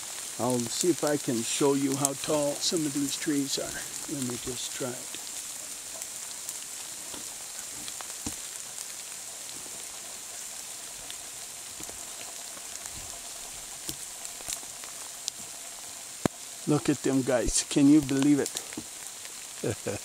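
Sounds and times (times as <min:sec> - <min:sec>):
light rain hiss: 0:00.0 - 0:20.0
raindrops tapping: 0:00.0 - 0:20.0.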